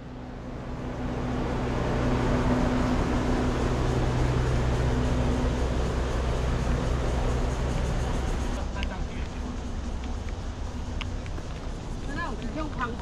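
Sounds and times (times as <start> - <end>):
diesel engine hum: 0.0 - 13.0
train wheels on rails: 0.0 - 13.0.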